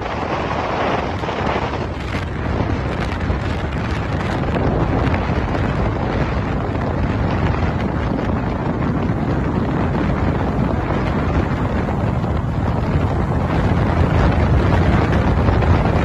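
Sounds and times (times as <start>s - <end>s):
speedboat rushing over water: 0.0s - 16.0s
wind buffeting microphone: 0.0s - 16.0s.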